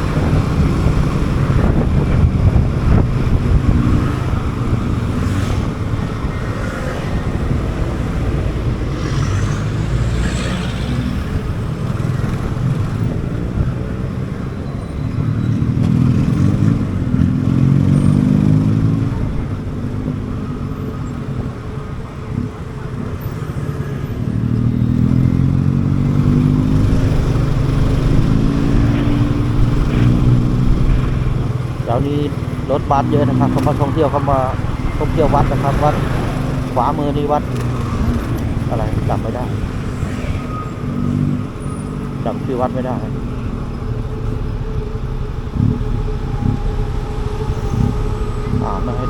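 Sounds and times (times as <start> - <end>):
motorcycle engine accelerating: 0.0 - 14.5, 15.3 - 49.0
wind rumbling on microphone: 0.0 - 18.1, 24.2 - 49.0.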